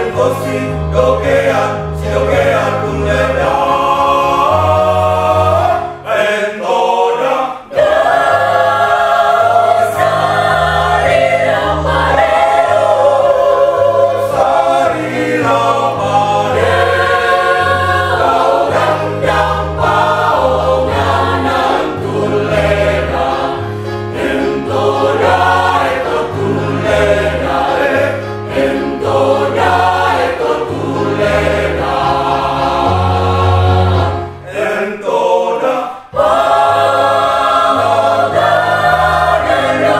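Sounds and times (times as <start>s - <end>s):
mixed choir singing in parts: 0.0s - 39.9s.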